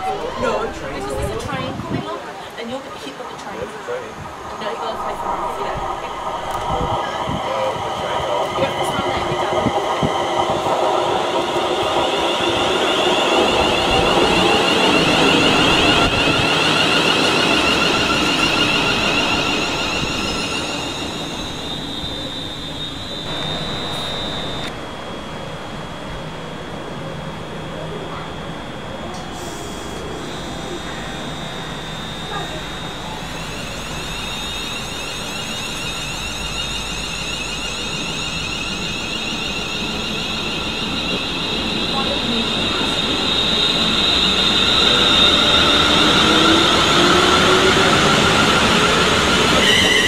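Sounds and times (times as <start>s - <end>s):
electric train passing: 0.0s - 50.0s
high whine: 0.0s - 50.0s.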